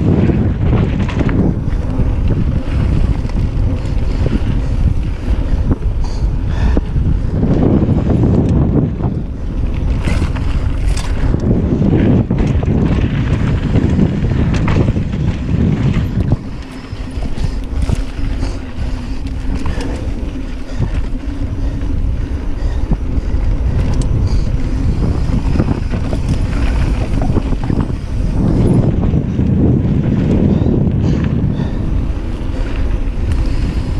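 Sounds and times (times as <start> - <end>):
bike clicks and rattles: 0.0 - 33.9
tyres rumbling over dirt: 0.0 - 33.9
wind buffeting microphone: 0.0 - 33.9.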